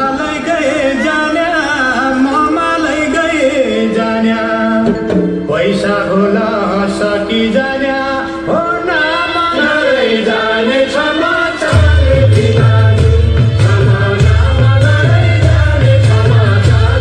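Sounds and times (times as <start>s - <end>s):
person singing: 0.0s - 17.0s
sustained instrumental accompaniment: 0.0s - 17.0s.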